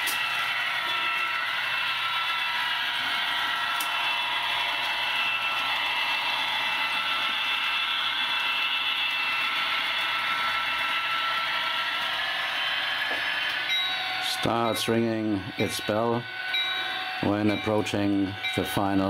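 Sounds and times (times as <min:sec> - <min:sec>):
model train running on rails: 0:00.0 - 0:19.0.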